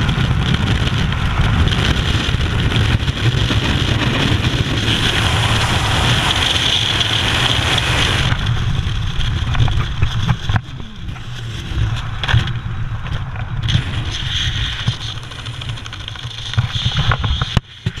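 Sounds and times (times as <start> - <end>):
parachute fabric flapping: 0.0 - 17.6
wind rushing over microphone: 0.0 - 18.0.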